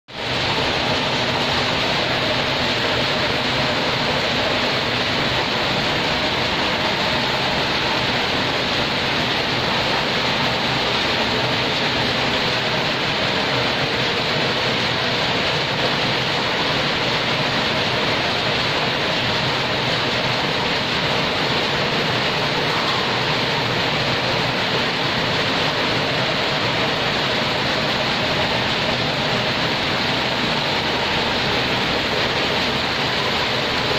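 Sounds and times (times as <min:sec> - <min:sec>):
power looms running: 0:00.1 - 0:33.9.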